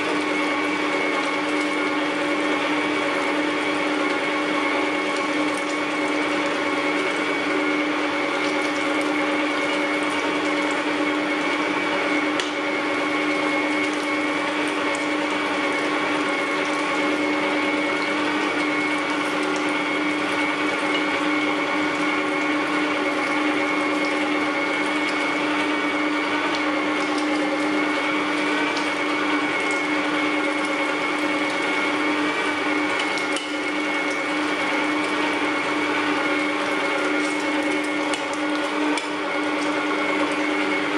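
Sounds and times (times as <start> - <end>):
electric meat grinder running: 0.0 - 40.9.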